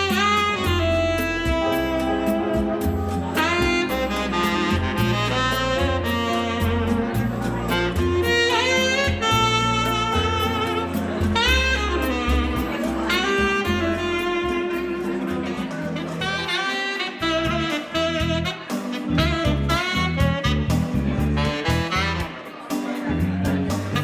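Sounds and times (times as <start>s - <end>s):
backing track with bass line: 0.0s - 16.6s, 17.2s - 24.0s
saxophone jazzy melody: 0.0s - 24.0s.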